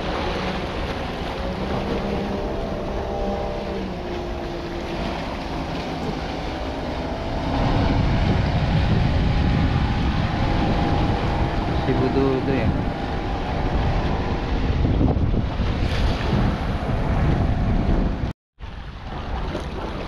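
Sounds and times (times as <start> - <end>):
boat engine droning: 0.0 - 20.0
wind rumbling on microphone: 0.0 - 20.0.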